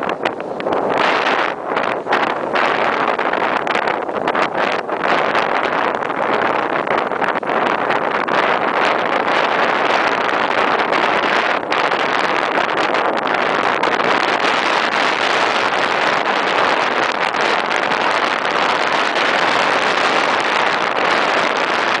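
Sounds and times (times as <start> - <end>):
car road noise: 0.0 - 22.0
rushing wind: 0.0 - 22.0.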